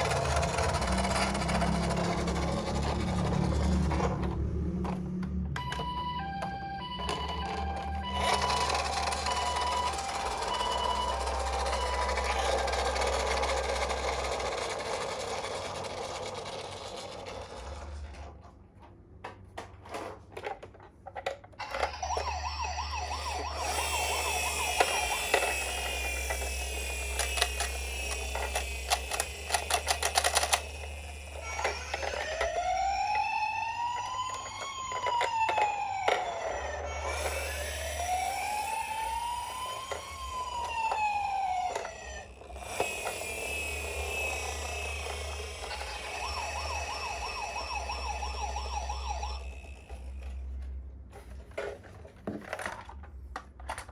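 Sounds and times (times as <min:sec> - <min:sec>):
toy ambulance sirens: 0:00.0 - 0:18.2, 0:21.2 - 0:51.7.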